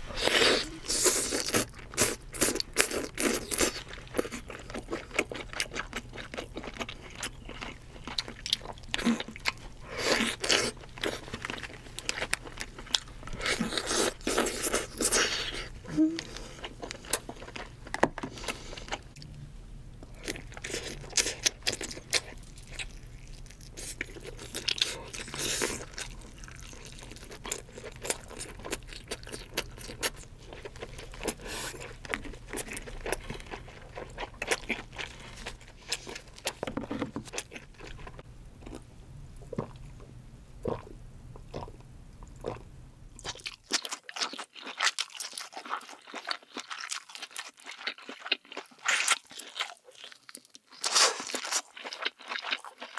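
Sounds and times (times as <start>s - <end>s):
low steady hum: 0.0s - 43.7s
crunching and chewing crab legs: 0.2s - 19.3s, 20.0s - 40.0s, 40.6s - 52.9s.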